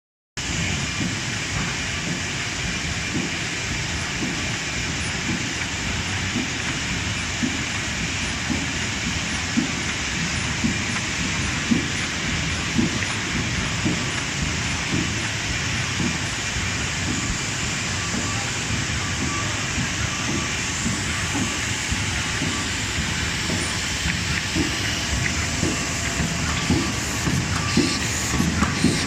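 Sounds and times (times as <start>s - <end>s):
embossing machine clatter and hiss: 0.4s - 29.0s.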